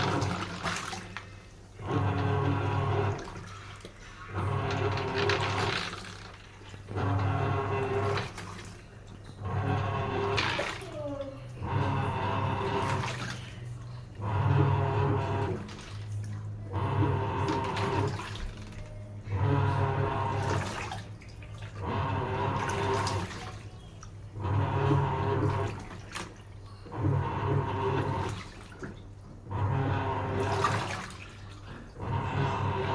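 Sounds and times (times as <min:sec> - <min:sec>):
washing machine motor hum: 0:00.0 - 0:32.9
water sloshing: 0:00.0 - 0:32.9.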